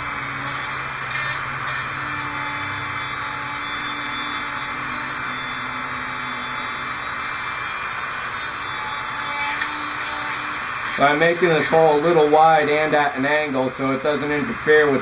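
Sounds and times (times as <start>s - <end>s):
bit grinding through resin: 0.0s - 15.0s
rotary tool motor whine: 0.0s - 15.0s.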